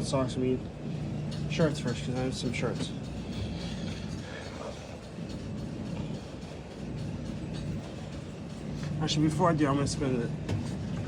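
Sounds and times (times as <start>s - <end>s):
laundromat machines humming: 0.0s - 11.0s.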